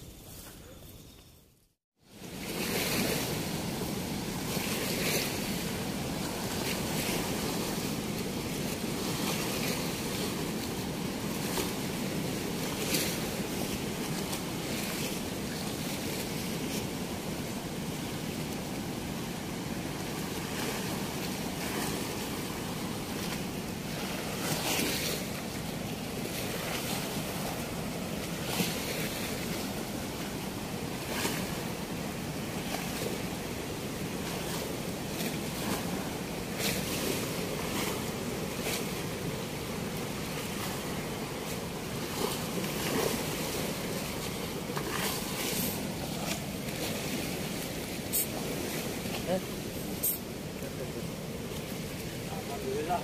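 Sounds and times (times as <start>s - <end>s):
turbulent water rushing: 2.1s - 53.0s.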